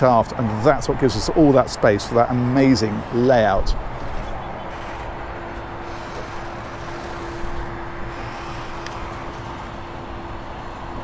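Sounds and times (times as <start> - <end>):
outdoor noise: 0.0 - 11.0
hatch motor humming: 0.5 - 11.0.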